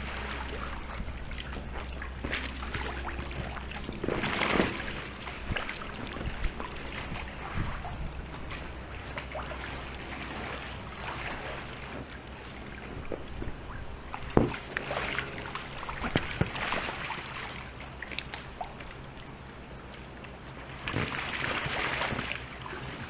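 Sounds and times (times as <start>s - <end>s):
pool water splashing: 0.0s - 23.0s.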